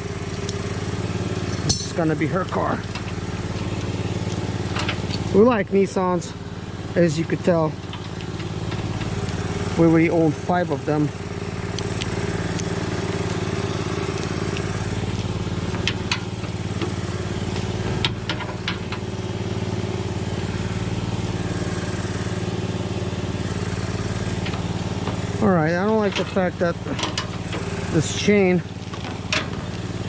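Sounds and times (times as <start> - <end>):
motor humming: 0.0 - 30.0.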